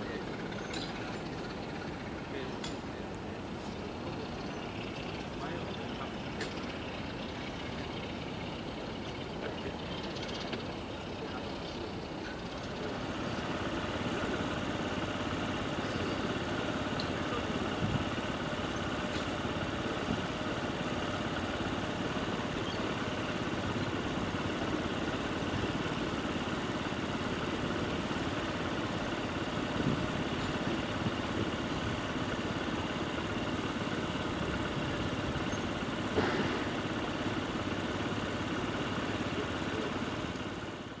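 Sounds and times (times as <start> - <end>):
ship engines droning: 0.0 - 41.0.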